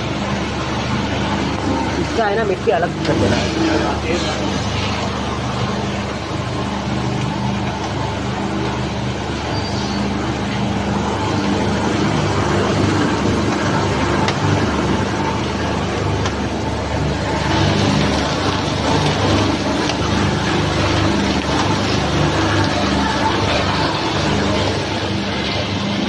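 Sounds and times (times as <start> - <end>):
magnetic separator machine hum: 0.0 - 26.0.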